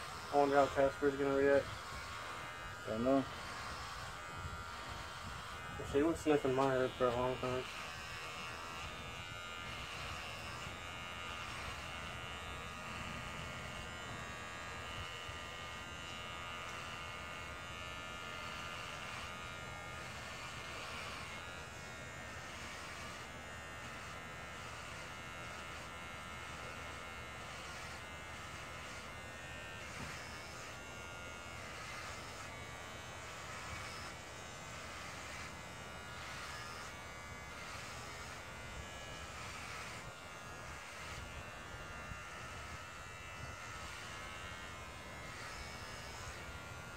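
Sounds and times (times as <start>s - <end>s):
electric hair clippers buzzing: 0.0s - 46.9s.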